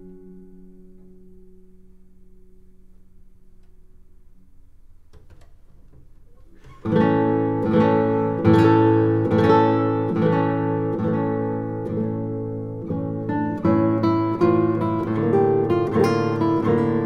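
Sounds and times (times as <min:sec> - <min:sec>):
classical guitar chords: 0:00.0 - 0:17.0.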